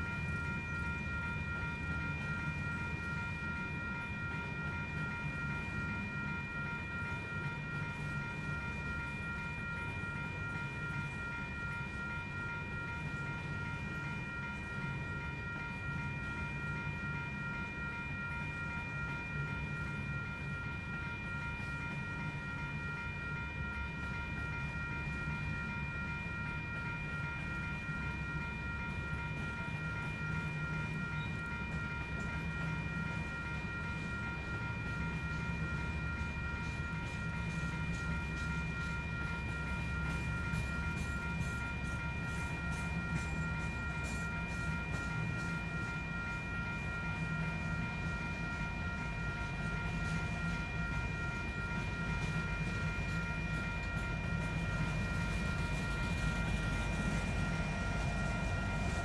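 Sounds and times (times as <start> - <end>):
steady high-pitched whine: 0.0 - 59.0
train wheels rumbling on rail: 0.0 - 59.0.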